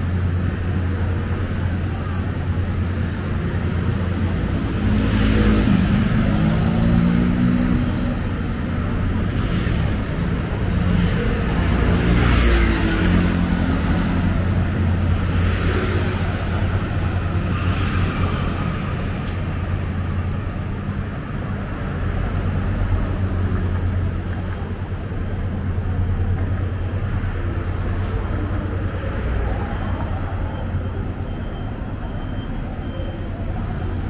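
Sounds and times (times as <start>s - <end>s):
low traffic rumble: 0.0s - 34.0s
vehicle engines passing: 0.0s - 34.0s.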